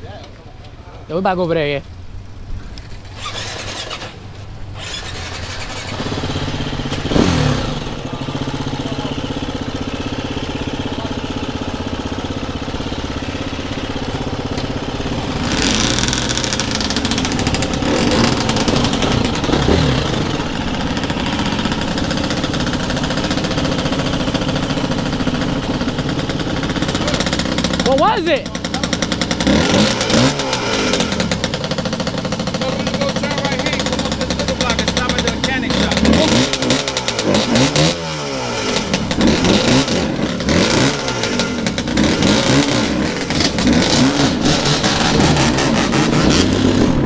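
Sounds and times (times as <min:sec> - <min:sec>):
small engine idling and revving: 0:02.7 - 0:47.0.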